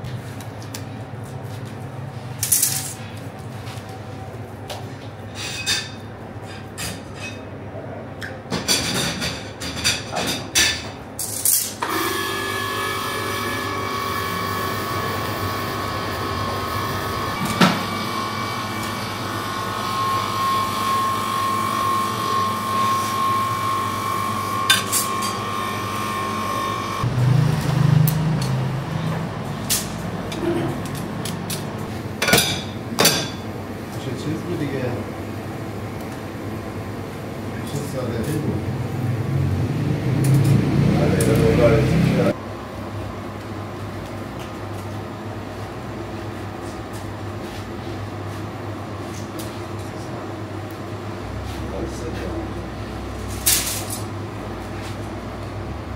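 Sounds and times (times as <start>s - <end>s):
mechanical hum with whine: 0.0s - 55.9s.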